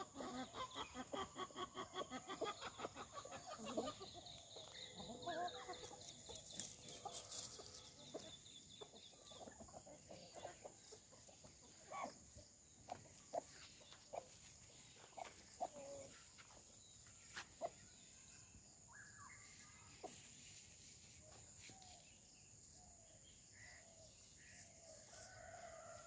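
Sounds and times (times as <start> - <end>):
chickens clucking: 0.0 - 18.8, 19.4 - 21.9.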